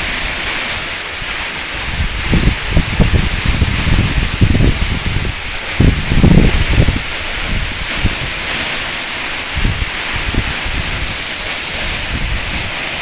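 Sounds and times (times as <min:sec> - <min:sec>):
waterfall rushing over rock: 0:00.0 - 0:13.0
wind gusts on microphone: 0:00.0 - 0:13.0.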